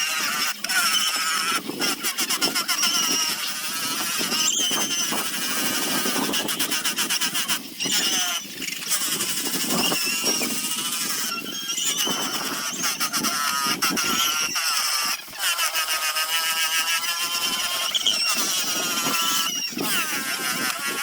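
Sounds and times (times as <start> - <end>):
high-pitched squeals of abrasive on wood: 0.0 - 21.0
sander motor: 0.0 - 21.0.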